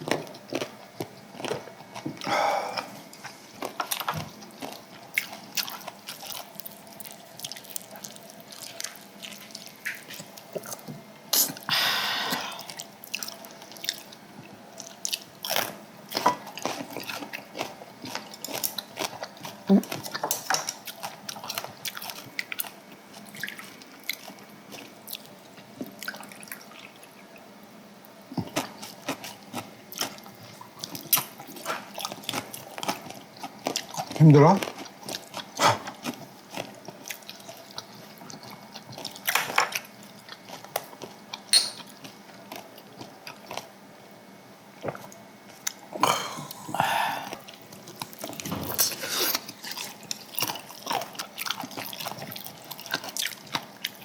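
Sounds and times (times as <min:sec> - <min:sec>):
person chewing and biting: 0:00.0 - 0:11.7, 0:12.3 - 0:26.4, 0:28.4 - 0:43.8, 0:45.1 - 0:54.0.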